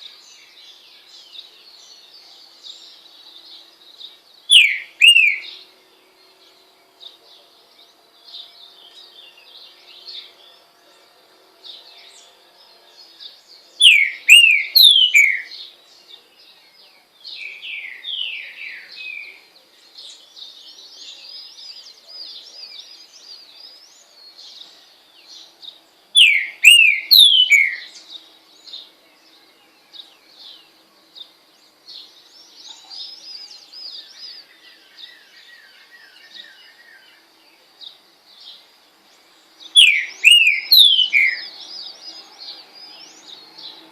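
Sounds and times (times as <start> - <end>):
bird singing whistled notes: 0.0 - 10.9, 11.6 - 43.9
small birds chirping: 0.0 - 43.9.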